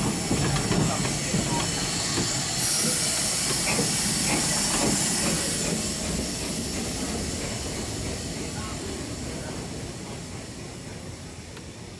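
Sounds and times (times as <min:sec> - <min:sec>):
steam locomotive hissing: 0:00.0 - 0:11.9.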